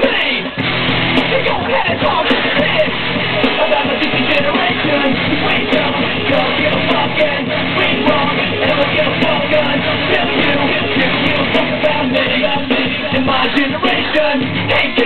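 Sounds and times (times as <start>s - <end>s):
hard rock music: 0.0s - 15.0s.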